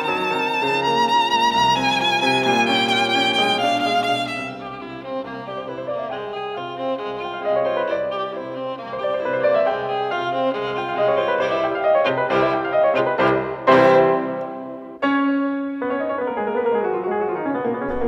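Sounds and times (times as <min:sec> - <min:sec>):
violin melody with strings: 0:00.0 - 0:15.2.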